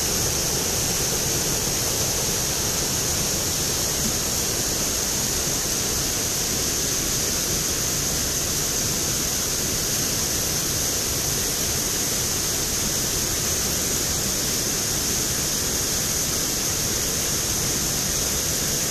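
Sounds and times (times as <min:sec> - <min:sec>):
stream rushing over boulders: 0:00.0 - 0:18.9.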